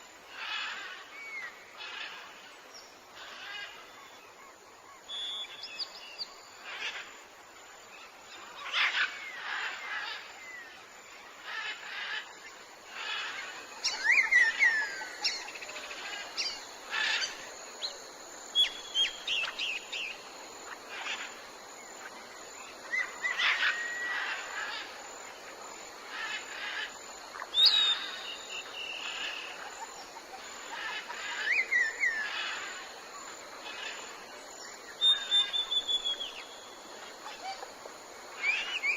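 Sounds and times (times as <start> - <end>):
forest birds chirping: 0.0 - 38.9.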